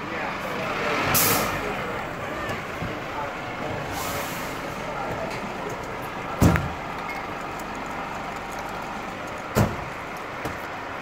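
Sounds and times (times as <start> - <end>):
fire engine idling: 0.0 - 11.0.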